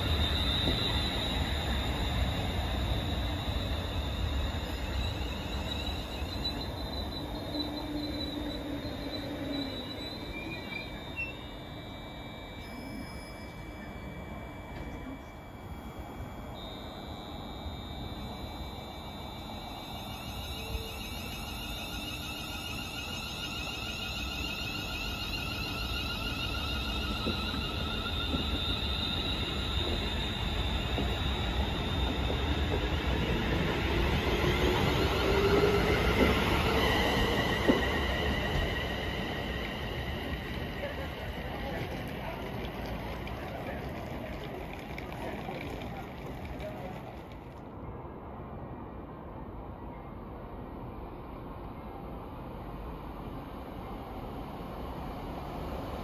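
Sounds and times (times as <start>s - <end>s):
low train running rumble: 0.0s - 56.0s
train wheels and brakes squealing: 0.0s - 56.0s.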